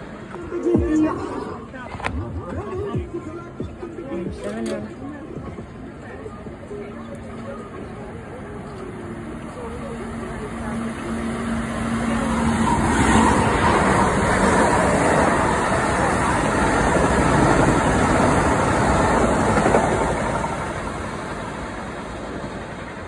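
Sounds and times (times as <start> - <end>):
train wheels rumbling on rails: 1.8 - 23.0.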